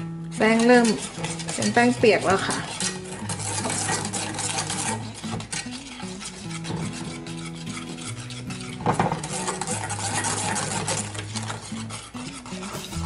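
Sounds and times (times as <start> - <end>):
whisk scraping metal saucepan: 0.0 - 13.0.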